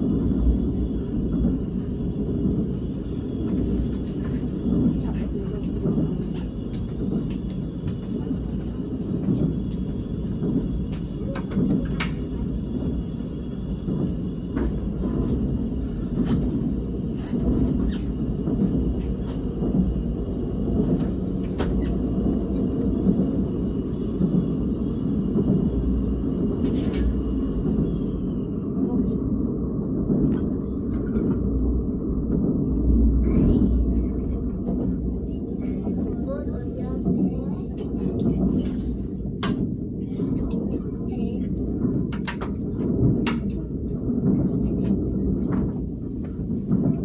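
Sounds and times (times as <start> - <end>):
train rolling rumble: 0.0 - 47.0.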